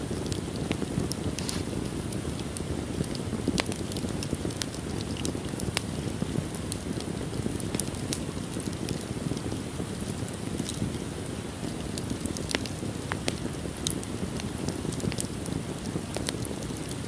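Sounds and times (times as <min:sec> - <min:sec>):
fire burning: 0:00.0 - 0:17.0
fire crackling and popping: 0:00.0 - 0:17.0.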